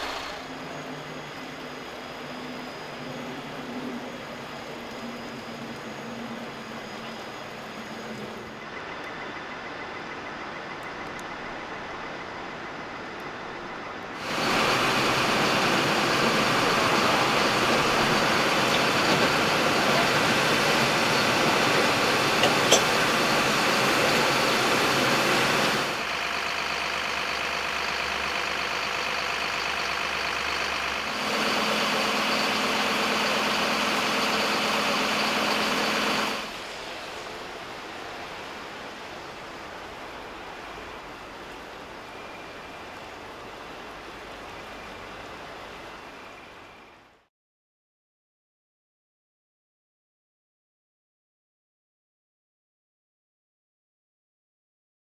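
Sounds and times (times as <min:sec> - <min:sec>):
diesel engine running: 0:00.0 - 0:47.2.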